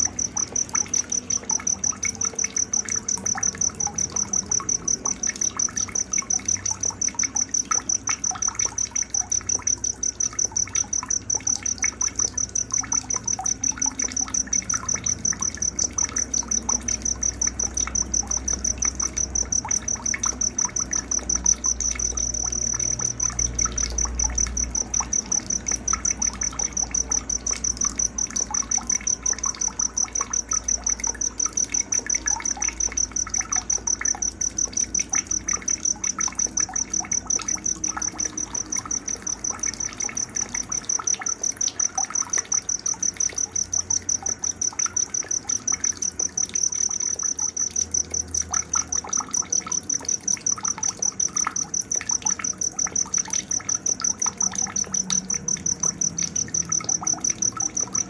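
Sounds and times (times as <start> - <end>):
cricket chirping trill: 0.0 - 58.0.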